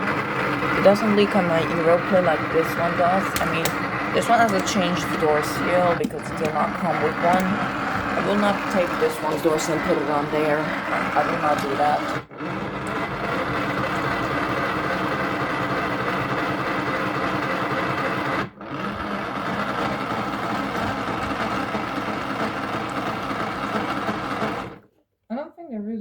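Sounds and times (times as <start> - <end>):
small electric motor running: 0.0 - 24.8.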